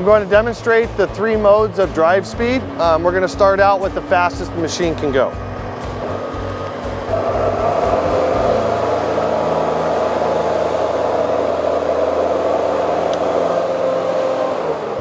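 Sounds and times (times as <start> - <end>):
boom lift engine running: 0.0 - 15.0.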